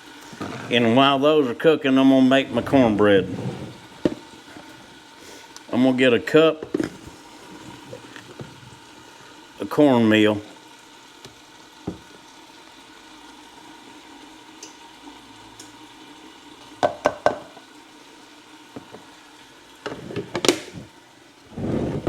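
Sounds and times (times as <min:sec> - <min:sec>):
potatoes and onions sizzling: 0:00.0 - 0:22.0.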